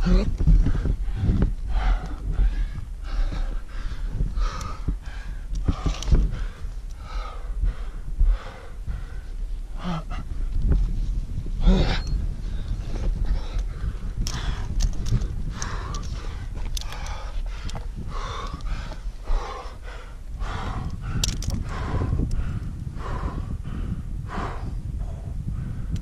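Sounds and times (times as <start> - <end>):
heavy labored breathing: 0.0 - 10.7, 11.4 - 26.0
low rumble: 0.0 - 26.0.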